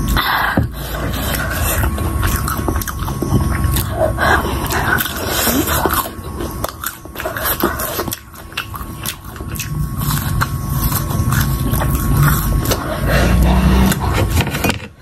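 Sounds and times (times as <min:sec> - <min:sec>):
person crunching fried food: 0:01.0 - 0:14.4.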